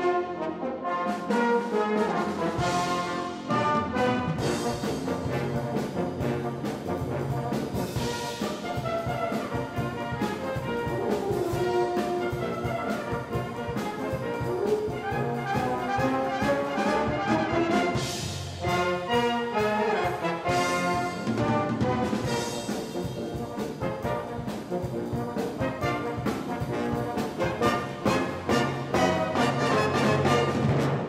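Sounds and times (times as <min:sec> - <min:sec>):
brass band playing: 0:00.0 - 0:31.0
drums beating: 0:00.7 - 0:31.0.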